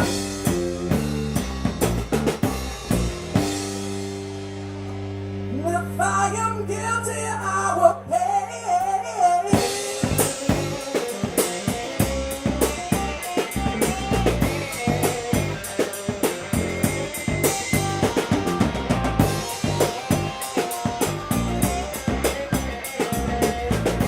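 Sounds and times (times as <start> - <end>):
drum kit: 0.0 - 7.6, 9.5 - 24.0
band music: 0.0 - 24.0
bass: 0.0 - 24.0.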